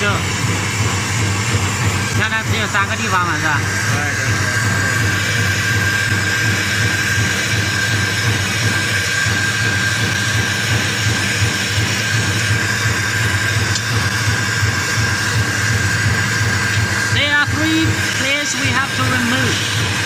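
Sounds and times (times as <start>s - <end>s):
torch flame hissing: 0.0s - 20.0s.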